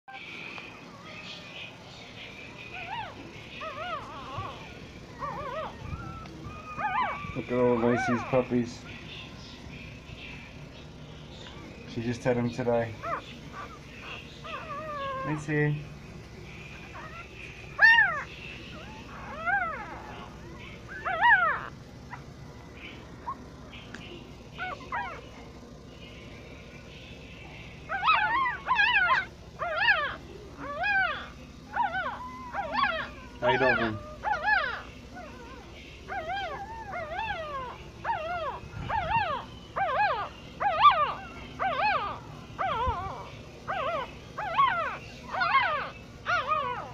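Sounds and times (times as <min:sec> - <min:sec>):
puppies crying: 0:00.1 - 0:46.9.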